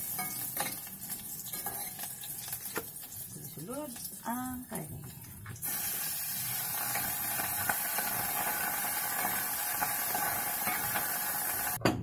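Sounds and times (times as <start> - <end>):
stove-top cooking hiss: 0.0 - 12.0.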